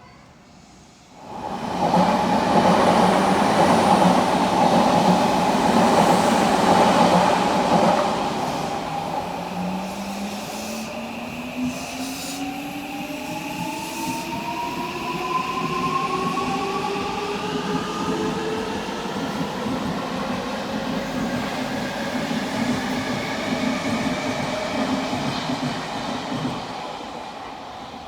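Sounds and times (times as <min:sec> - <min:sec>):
train wheels rumbling on rails: 0:01.2 - 0:28.0.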